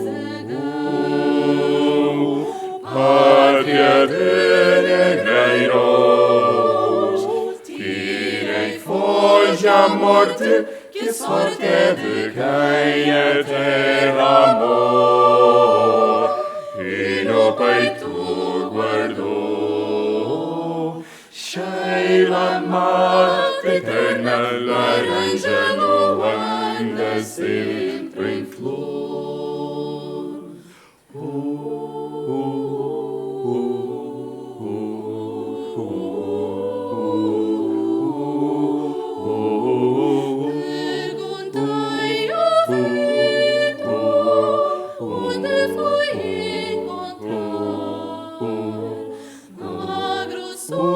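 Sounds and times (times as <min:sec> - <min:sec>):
vocal ensemble singing a cappella: 0:00.0 - 0:50.9.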